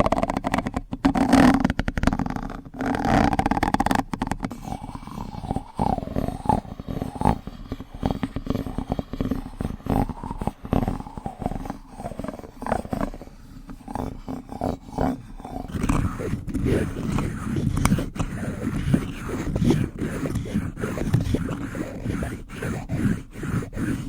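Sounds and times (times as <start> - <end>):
wet mouth sounds on a spoon: 2.1 - 24.0.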